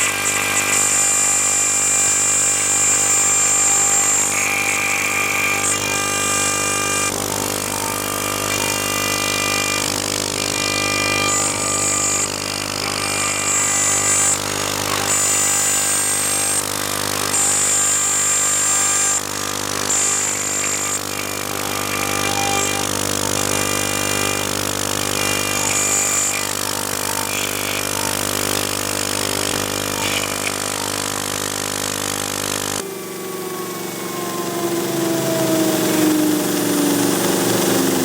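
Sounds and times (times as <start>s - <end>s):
high machine whine: 0.0s - 38.0s
machine motor hum: 0.0s - 38.0s.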